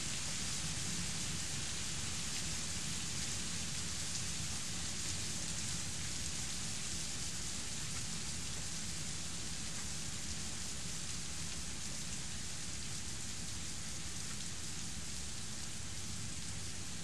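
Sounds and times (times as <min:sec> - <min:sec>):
heavy rain on trees: 0:00.0 - 0:17.0.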